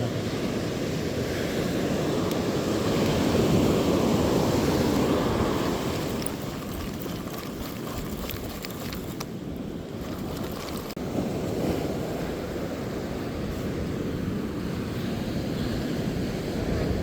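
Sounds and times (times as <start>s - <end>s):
surf washing against shore: 0.0s - 17.0s.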